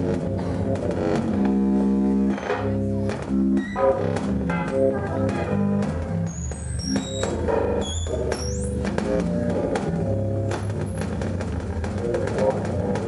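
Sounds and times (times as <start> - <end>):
modular synthesizer chords: 0.0 - 13.0.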